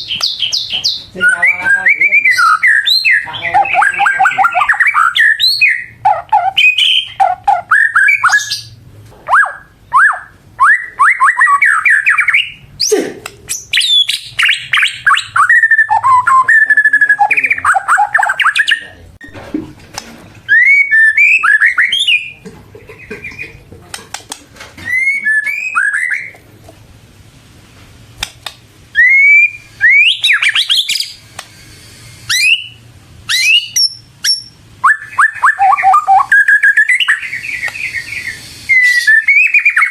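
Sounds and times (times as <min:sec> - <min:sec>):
songbird whistling: 0:00.0 - 0:12.7, 0:13.5 - 0:18.9, 0:20.5 - 0:22.4, 0:24.8 - 0:26.4, 0:28.9 - 0:39.9.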